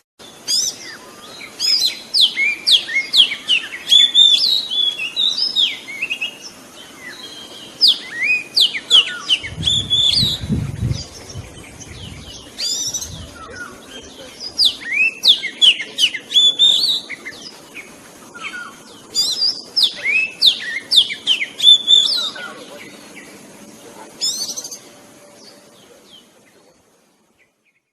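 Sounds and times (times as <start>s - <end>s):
bird singing whistles and chirps: 0.2s - 23.3s, 24.2s - 26.3s.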